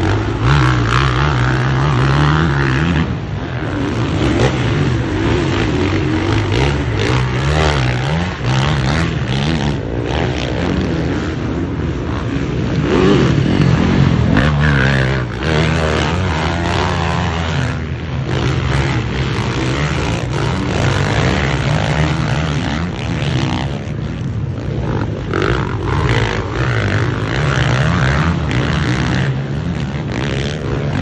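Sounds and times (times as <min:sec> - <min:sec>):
motocross bike engines racing: 0:00.0 - 0:31.0.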